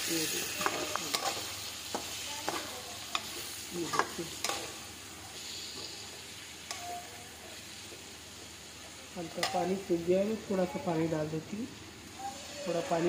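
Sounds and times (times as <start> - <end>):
masala sizzling: 0.0 - 13.0.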